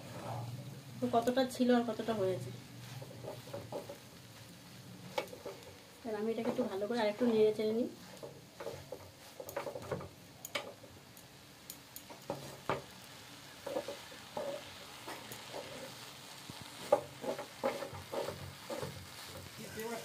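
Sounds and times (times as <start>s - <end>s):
faint steady sizzle: 0.0s - 20.0s
spatula scraping a pan: 2.0s - 10.8s, 12.1s - 20.0s.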